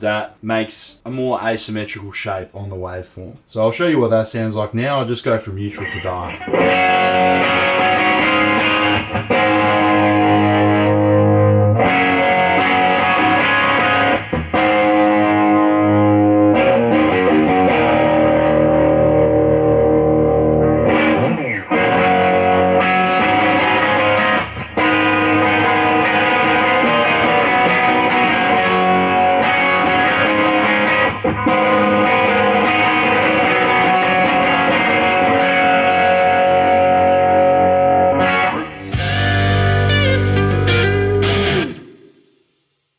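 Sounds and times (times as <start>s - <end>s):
overdriven electric guitar: 5.8s - 42.3s.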